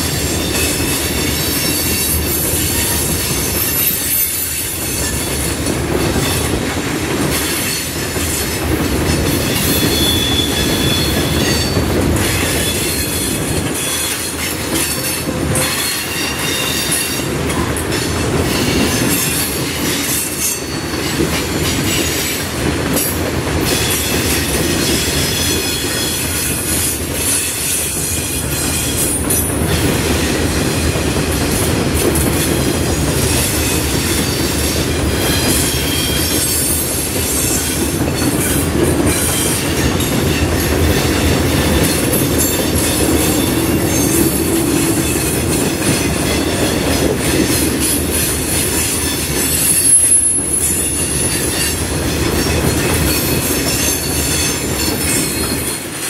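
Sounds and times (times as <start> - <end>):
railroad cars rumbling: 0.0 - 56.0.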